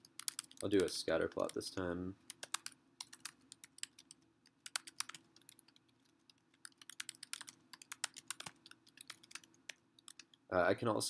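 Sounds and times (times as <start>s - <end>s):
typing on computer keyboard: 0.0s - 1.6s, 2.3s - 10.4s.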